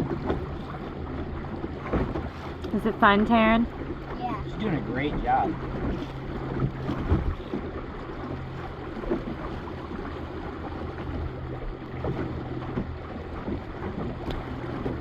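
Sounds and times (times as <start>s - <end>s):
water washing against hull: 0.0s - 15.0s.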